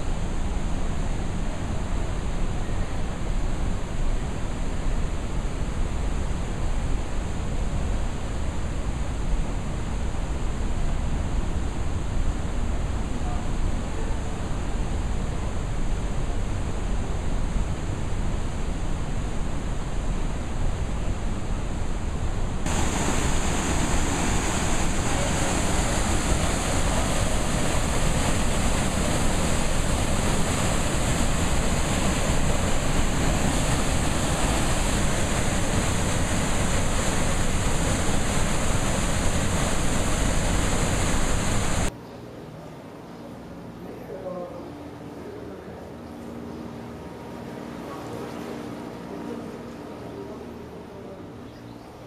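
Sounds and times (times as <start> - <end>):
whitewater rushing over rapids: 0.0 - 41.9.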